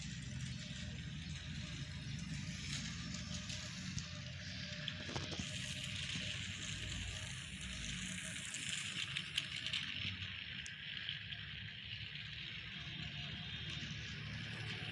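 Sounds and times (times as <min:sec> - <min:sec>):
toy train whirring rattle: 0:00.0 - 0:14.9.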